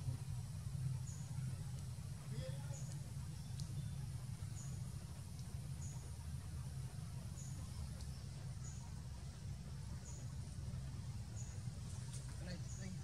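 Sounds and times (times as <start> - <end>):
low forest rumble: 0.0 - 13.0.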